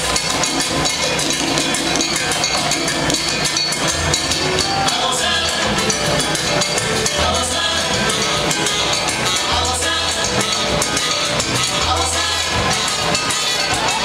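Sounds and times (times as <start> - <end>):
music with drums and percussion: 0.0 - 14.0.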